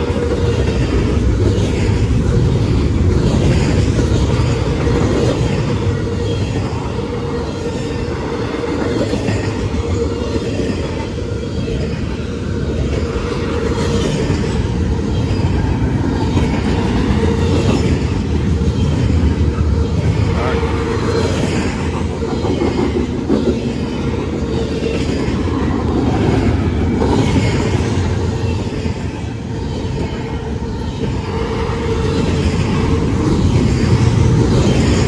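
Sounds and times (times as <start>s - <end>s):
freight train wheels rumbling on rails: 0.0s - 35.0s.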